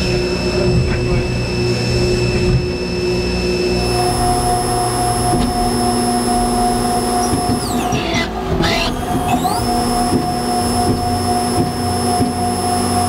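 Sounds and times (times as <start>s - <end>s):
machine high whine: 0.0s - 13.0s
mechanical rumble: 0.0s - 13.0s.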